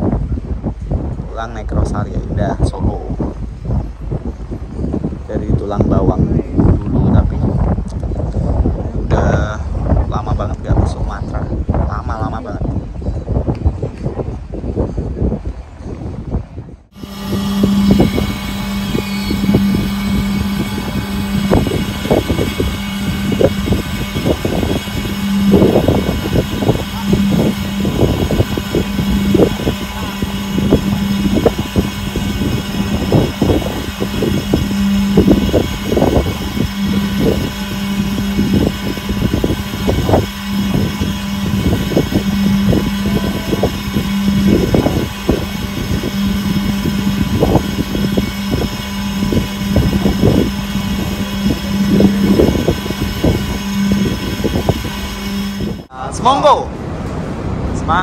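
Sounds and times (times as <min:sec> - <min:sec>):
low engine drone: 0:00.0 - 0:58.0
wind buffeting microphone: 0:00.0 - 0:58.0.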